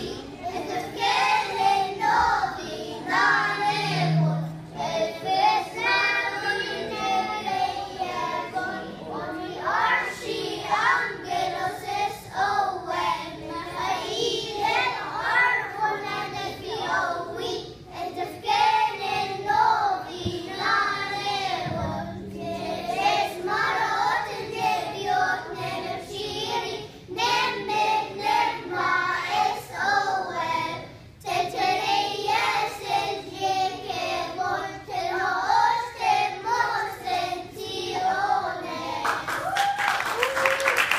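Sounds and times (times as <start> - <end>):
children's choir singing: 0.0 - 39.5.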